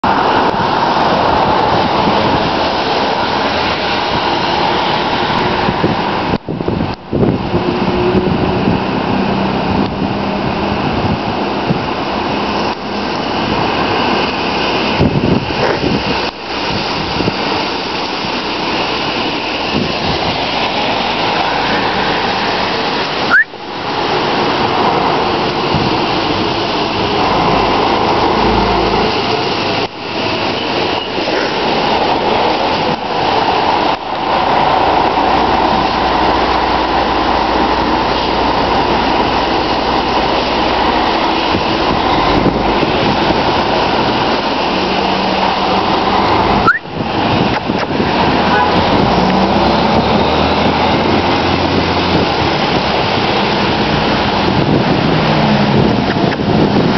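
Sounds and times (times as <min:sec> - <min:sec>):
traffic on a wet road: 0:00.0 - 0:56.9
wind on microphone: 0:00.0 - 0:56.9.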